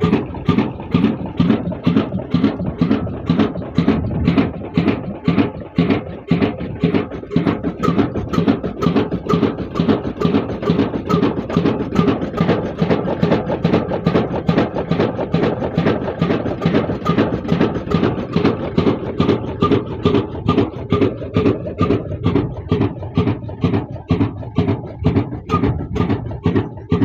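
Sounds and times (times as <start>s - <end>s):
diesel engine knocking: 0.0s - 27.0s.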